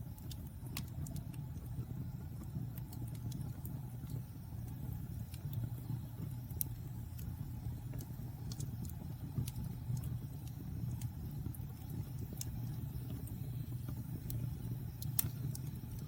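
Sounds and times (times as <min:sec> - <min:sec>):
fire crackling and popping: 0:00.0 - 0:16.0
low roar of flames: 0:00.0 - 0:16.0.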